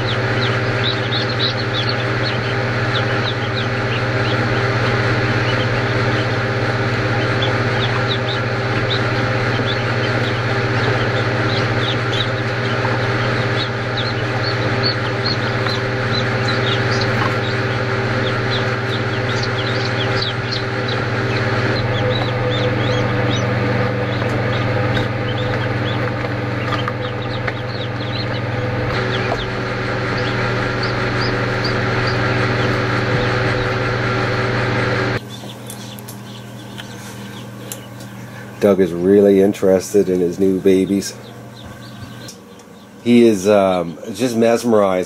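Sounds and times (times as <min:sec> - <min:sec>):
ducklings peeping: 0:00.0 - 0:45.0
egg hatcher humming: 0:00.0 - 0:45.0.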